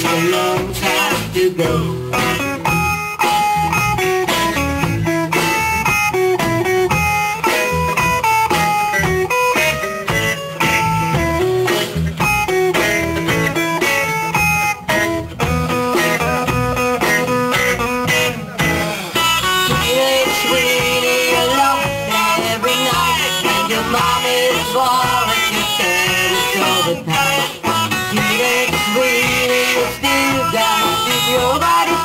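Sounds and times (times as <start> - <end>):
bass and drums: 0.0 - 32.0
electric guitars: 0.0 - 32.0.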